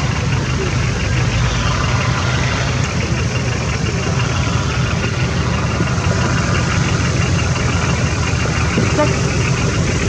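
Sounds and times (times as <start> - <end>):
diesel engine running at low revs: 0.0 - 10.0.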